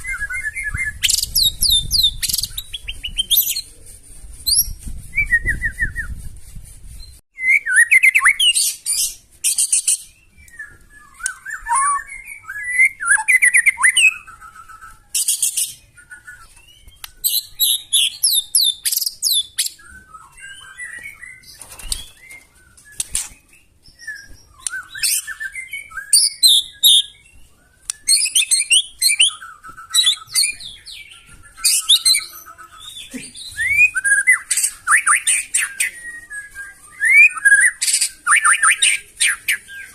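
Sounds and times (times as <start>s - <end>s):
songbird singing whistles and trills: 0.0s - 3.6s, 4.5s - 6.3s, 6.9s - 39.9s.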